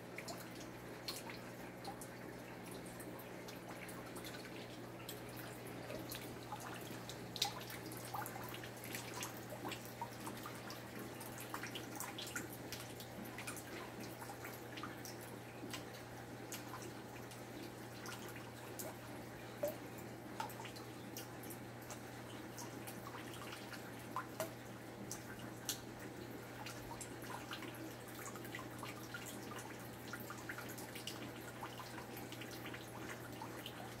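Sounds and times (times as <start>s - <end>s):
low hum of tank pumps: 0.0s - 34.0s
water dripping and bubbling: 0.0s - 34.0s.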